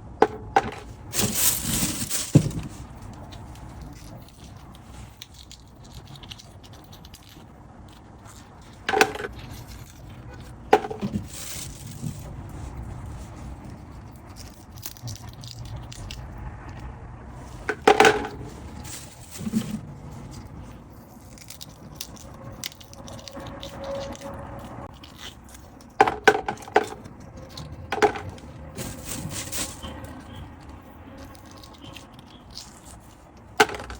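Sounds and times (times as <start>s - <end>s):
soft handling and scraping: 0.1s - 14.8s, 17.3s - 33.9s.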